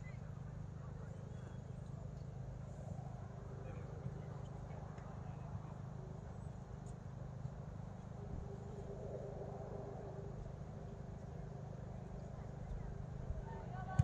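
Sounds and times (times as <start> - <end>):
distant voices: 0.0 - 14.0
low outdoor rumble: 0.0 - 14.0.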